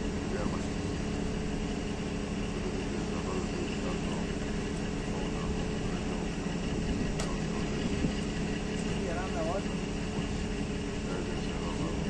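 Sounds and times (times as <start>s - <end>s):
lift truck engine idling: 0.0s - 12.0s.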